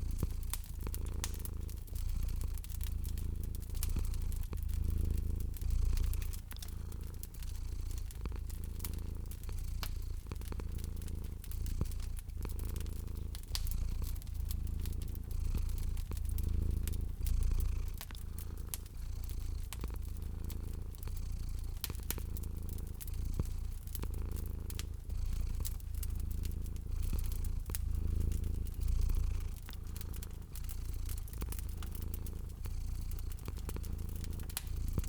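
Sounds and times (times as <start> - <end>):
cat purring: 0.0 - 35.0
wood fire crackling: 0.0 - 35.0.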